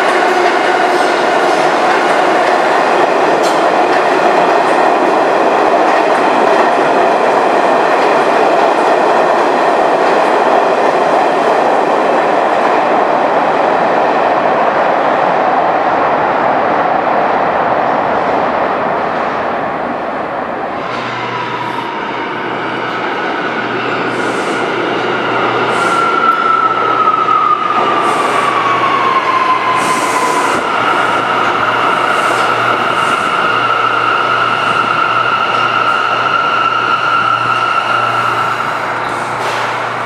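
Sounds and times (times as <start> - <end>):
subway train rail rumble: 0.0 - 40.0.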